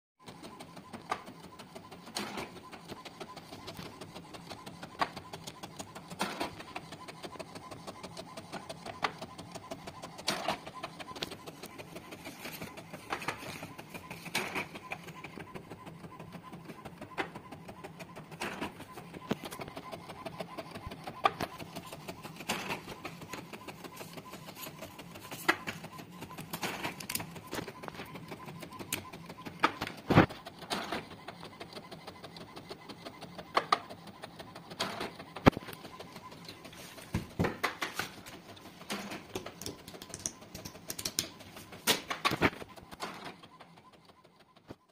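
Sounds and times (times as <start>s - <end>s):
inkjet printer mechanical chatter: 0.2s - 44.9s
printer clicks: 0.3s - 44.8s.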